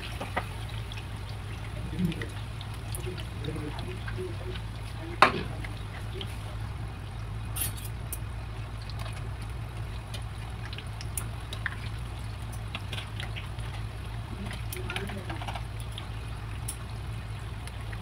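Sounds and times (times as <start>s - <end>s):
food deep-frying in oil: 0.0s - 18.0s
low hum: 0.0s - 18.0s.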